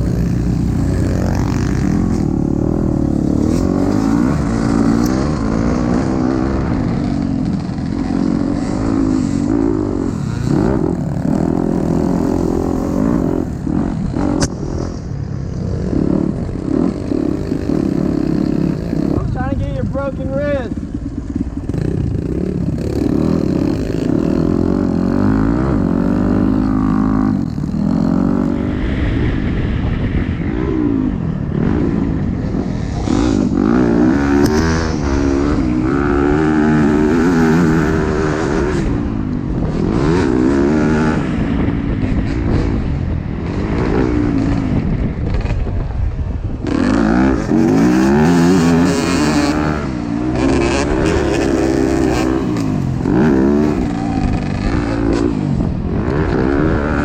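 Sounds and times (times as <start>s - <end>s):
dirt bike engine revving: 0.0s - 29.6s, 30.4s - 45.8s, 46.6s - 57.0s.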